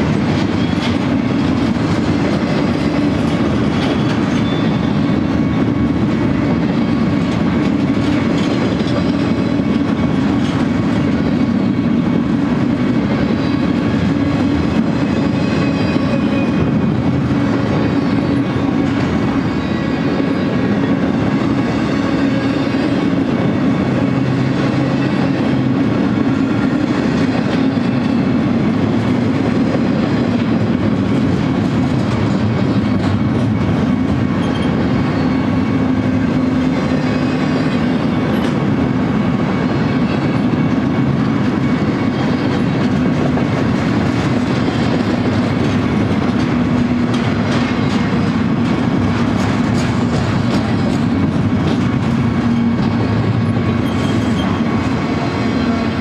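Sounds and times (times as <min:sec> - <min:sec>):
freight train wheels clattering on rail: 0:00.0 - 0:56.0.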